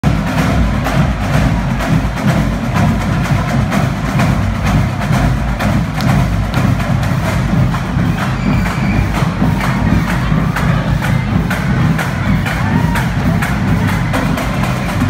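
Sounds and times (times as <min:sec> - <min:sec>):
music with heavy bass beat: 0:00.0 - 0:15.0.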